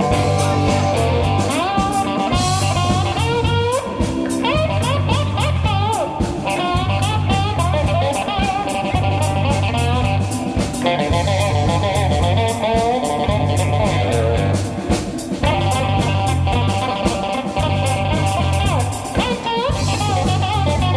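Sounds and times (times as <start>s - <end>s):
bass line: 0.0s - 20.9s
drum beat: 0.0s - 20.9s
slide guitar blues lead: 0.0s - 20.9s.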